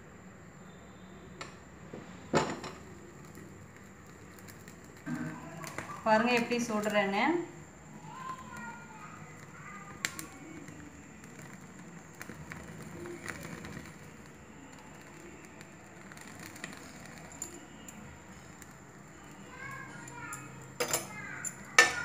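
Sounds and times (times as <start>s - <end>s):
gas burner hissing: 0.6s - 22.0s
faint crackling: 2.0s - 21.8s.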